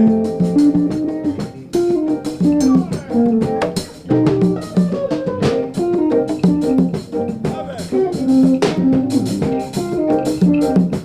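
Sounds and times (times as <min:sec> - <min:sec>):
drum kit with cymbals: 0:00.0 - 0:11.0
plucked string melody: 0:00.0 - 0:11.0.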